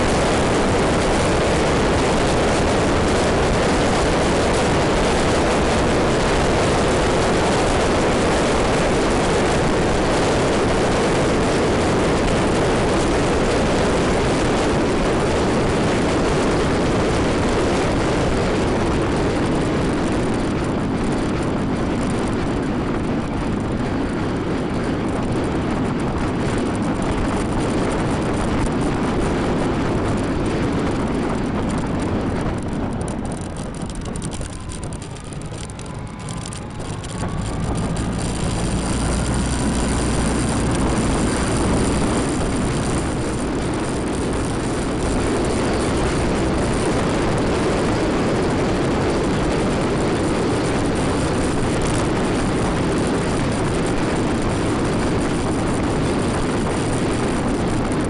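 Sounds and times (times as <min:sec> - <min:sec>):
scooter engine and road noise: 0:00.0 - 0:58.0
wind rush: 0:00.0 - 0:58.0.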